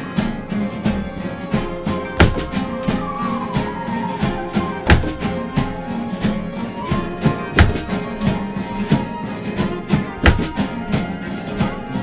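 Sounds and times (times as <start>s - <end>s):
flute: 0.0s - 12.0s
strummed classical guitars: 0.0s - 12.0s
trumpet: 1.2s - 12.0s.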